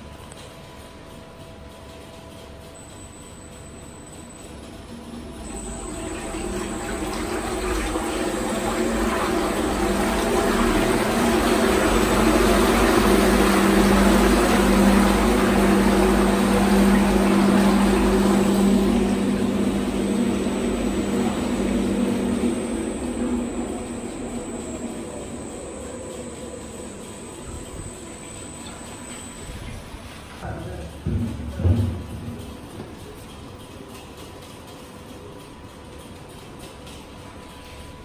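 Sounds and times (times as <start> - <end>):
mixer motor and gearbox hum: 0.0 - 38.0.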